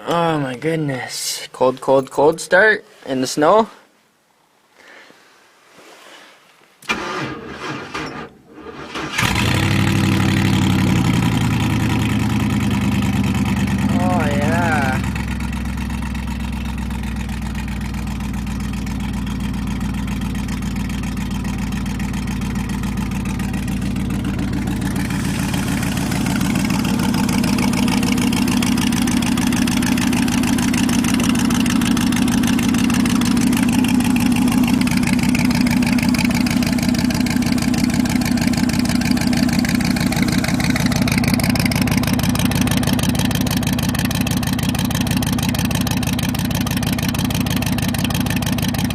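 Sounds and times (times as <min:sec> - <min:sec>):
car engine idling: 0:06.9 - 0:48.9.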